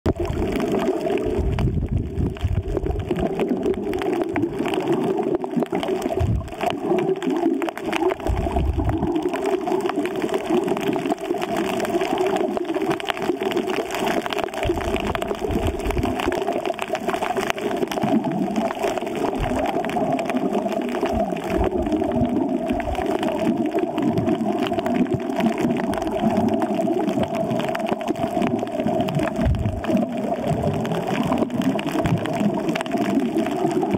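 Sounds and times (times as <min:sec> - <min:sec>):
muffled underwater water rush: 0:00.0 - 0:33.9.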